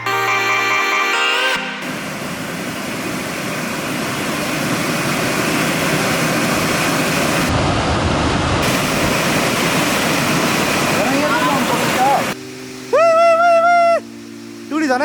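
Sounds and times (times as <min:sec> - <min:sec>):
waterfall rushing: 0:01.6 - 0:15.0.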